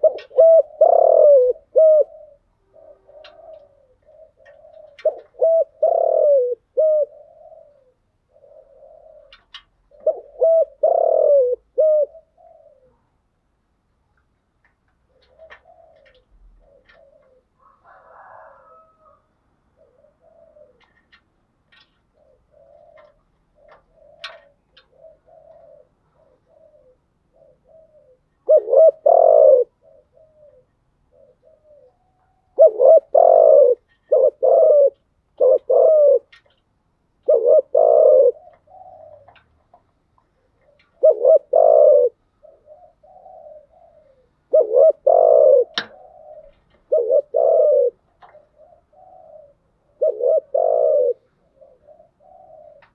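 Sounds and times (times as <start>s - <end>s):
dove cooing: 0.0s - 13.4s, 14.9s - 36.6s, 37.2s - 52.9s.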